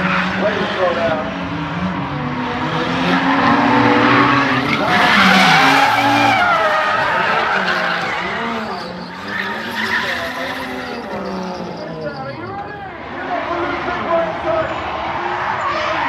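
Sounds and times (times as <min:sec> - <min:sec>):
car engines revving: 0:00.0 - 0:16.0
tyres squealing and skidding: 0:02.6 - 0:16.0.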